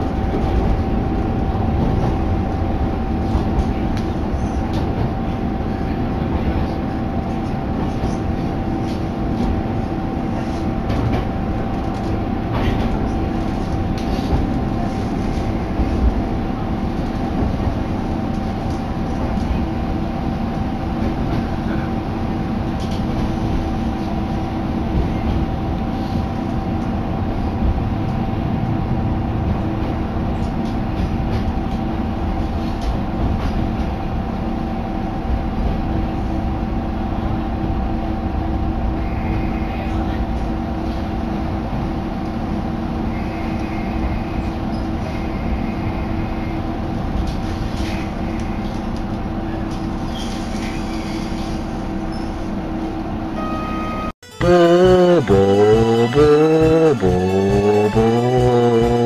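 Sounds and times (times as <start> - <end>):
railcar engine and wheels rumbling: 0.0 - 59.0.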